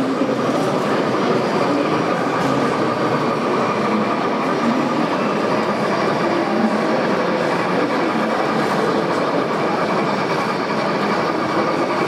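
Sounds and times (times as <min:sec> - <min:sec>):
exhibition hall background noise: 0:00.0 - 0:12.0
model train rolling on track: 0:00.0 - 0:12.0.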